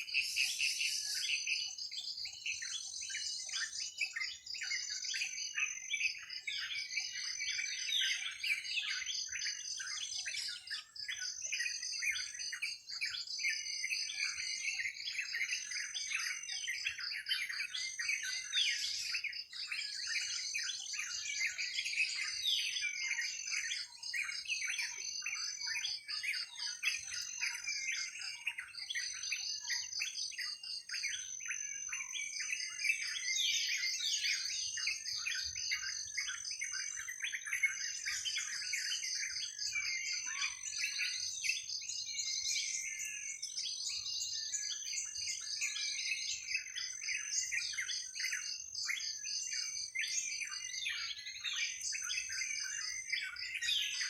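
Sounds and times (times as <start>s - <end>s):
forest birds chirping: 0.0s - 54.0s.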